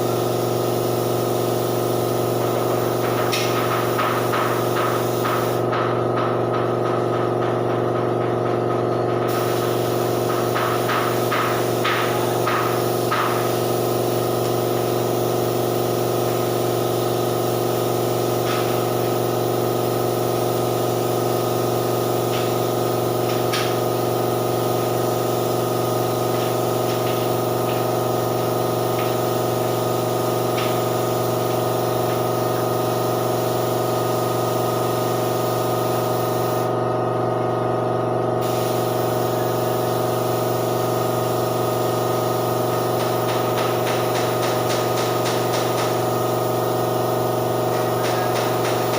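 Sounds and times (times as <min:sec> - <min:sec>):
paint spray gun hissing: 0:00.0 - 0:05.7, 0:09.2 - 0:36.8, 0:38.4 - 0:48.9
air compressor humming: 0:00.0 - 0:48.9.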